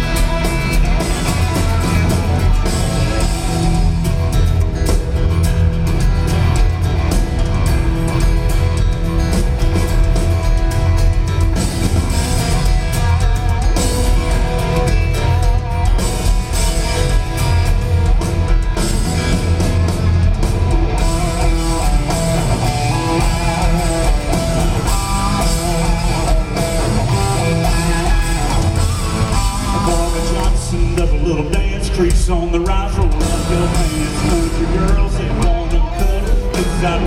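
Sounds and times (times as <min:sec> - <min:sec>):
lead guitar: 0:00.0 - 0:37.0
live country band playing: 0:00.0 - 0:37.0.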